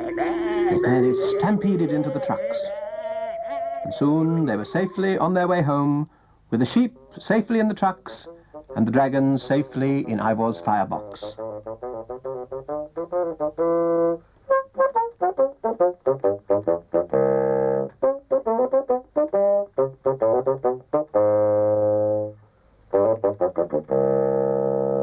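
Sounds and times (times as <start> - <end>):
reedy wind instrument music: 0.0 - 5.4, 8.0 - 25.0.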